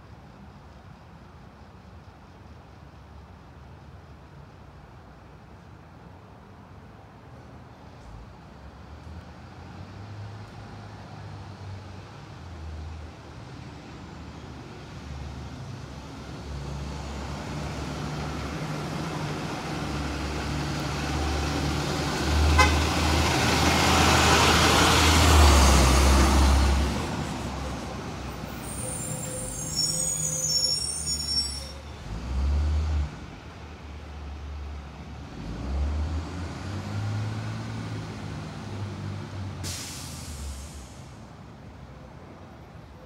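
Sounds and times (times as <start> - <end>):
bus diesel engine driving past: 0.0 - 43.0.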